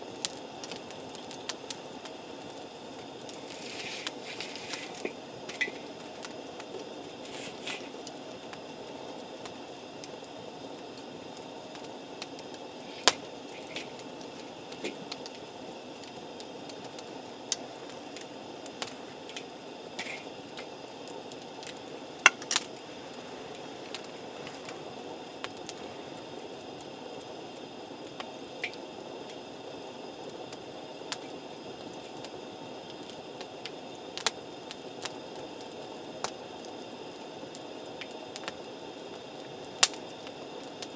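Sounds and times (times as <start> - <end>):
campfire hissing: 0.0 - 40.9
fire crackles and pops: 0.0 - 40.9.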